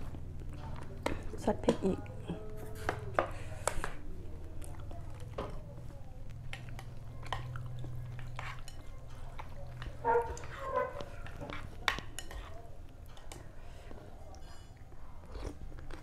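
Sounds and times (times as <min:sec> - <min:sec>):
utensils clinking against a bowl: 0:00.5 - 0:04.0, 0:06.4 - 0:16.0.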